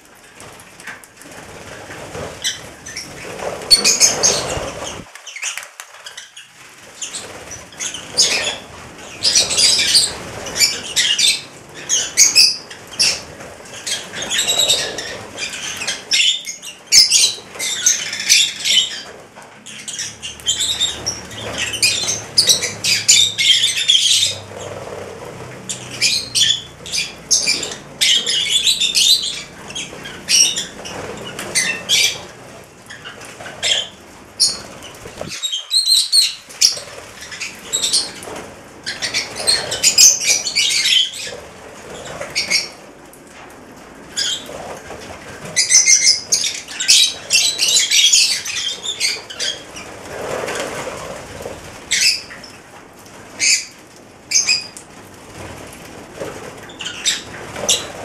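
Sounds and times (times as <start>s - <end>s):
lovebirds chirping and squawking: 0.3s - 42.8s, 44.0s - 52.6s, 53.3s - 54.8s, 56.5s - 58.0s.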